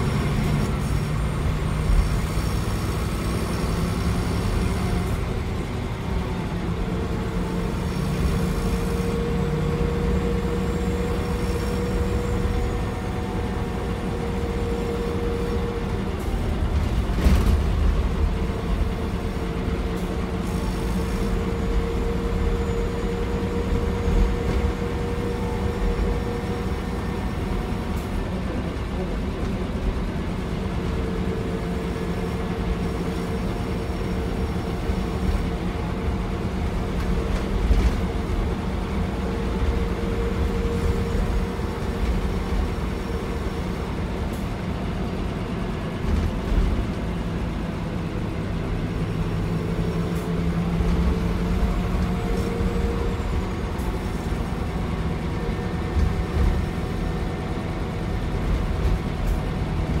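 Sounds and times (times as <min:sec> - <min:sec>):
diesel engine droning: 0:00.0 - 1:00.0
road and tyre rumble: 0:00.0 - 1:00.0.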